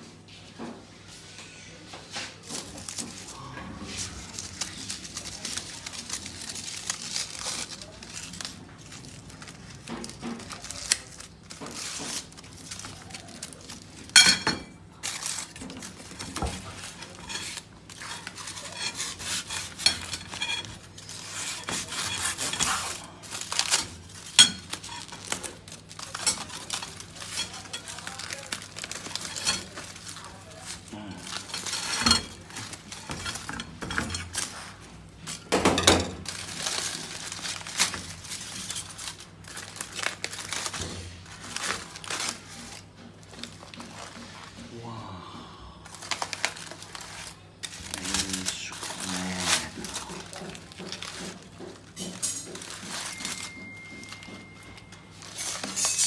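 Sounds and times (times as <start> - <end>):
metal pots and utensils clattering: 2.4 - 44.7, 45.9 - 56.0.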